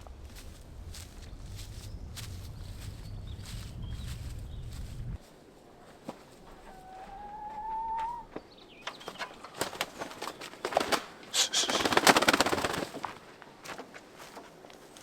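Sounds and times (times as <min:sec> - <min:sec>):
chickens scuffling and flapping: 0:00.1 - 0:15.0.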